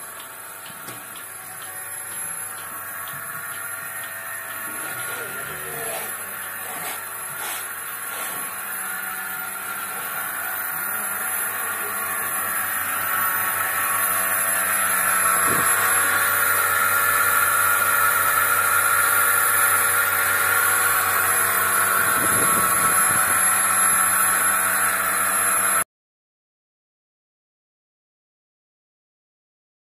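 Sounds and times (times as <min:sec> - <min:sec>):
vacuum pump humming and hissing: 0:00.0 - 0:25.8.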